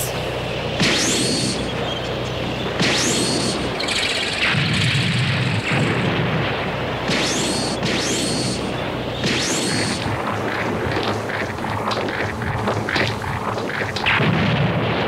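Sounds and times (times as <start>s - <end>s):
sci-fi zapping shots: 0.0s - 2.0s, 2.6s - 15.0s
steady low hum: 0.0s - 15.0s
rumbling explosion: 2.7s - 15.0s.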